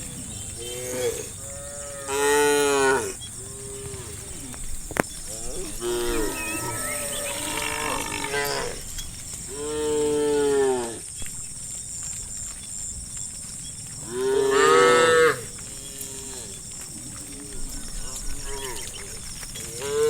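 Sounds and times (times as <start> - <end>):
cows mooing: 0.0 - 11.0, 14.0 - 20.0.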